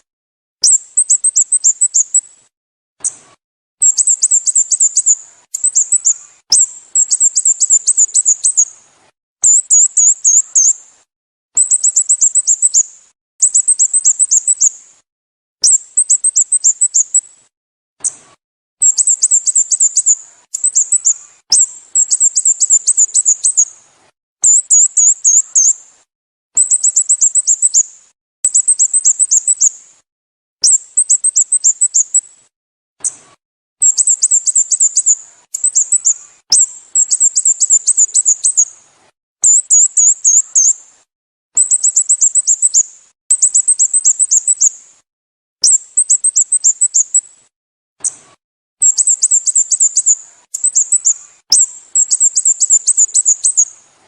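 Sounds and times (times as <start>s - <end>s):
bird sharp chirps: 0.6s - 2.3s, 3.0s - 8.8s, 9.4s - 10.8s, 11.6s - 14.8s, 15.6s - 17.3s, 18.0s - 23.7s, 24.4s - 25.8s, 26.6s - 29.8s, 30.6s - 32.3s, 33.0s - 38.8s, 39.4s - 40.8s, 41.6s - 44.8s, 45.6s - 47.3s, 48.0s - 53.8s.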